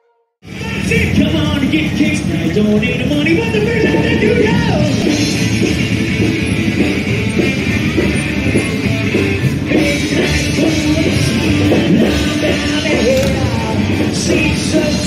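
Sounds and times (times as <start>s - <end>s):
rock music with electric guitar: 0.4s - 15.0s.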